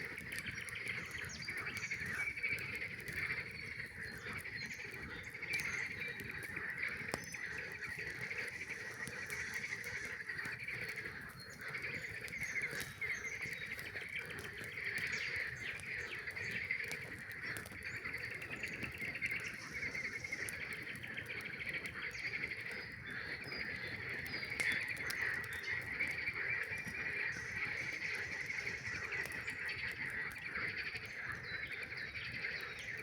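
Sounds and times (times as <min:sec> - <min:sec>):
campfire crackling: 0:00.0 - 0:33.0
frogs calling: 0:00.0 - 0:33.0.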